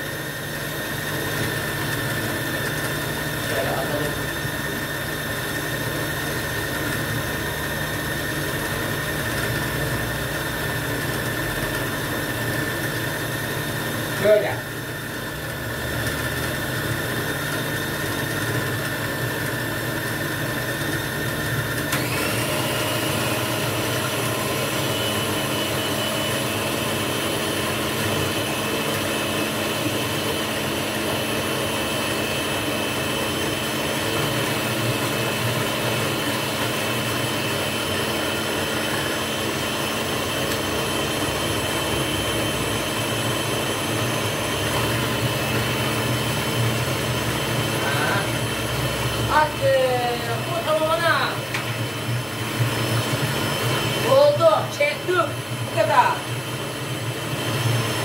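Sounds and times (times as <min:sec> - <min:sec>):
food processor motor whining: 0:00.0 - 0:58.0.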